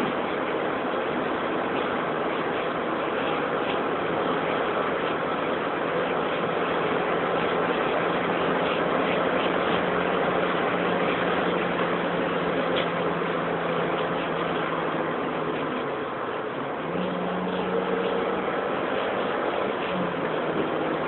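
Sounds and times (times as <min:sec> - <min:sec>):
car engine drone: 0:00.0 - 0:21.0
wind and road noise: 0:00.0 - 0:21.0.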